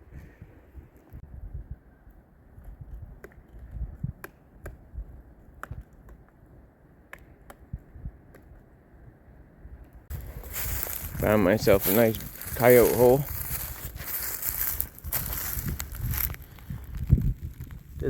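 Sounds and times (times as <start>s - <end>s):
wind rumble on microphone: 0.0s - 5.9s, 7.7s - 8.3s, 9.7s - 18.0s.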